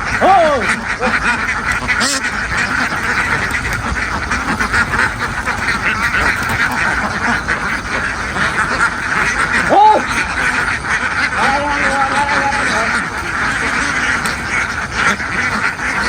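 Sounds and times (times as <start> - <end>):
flock of ducks quacking: 0.0 - 16.0.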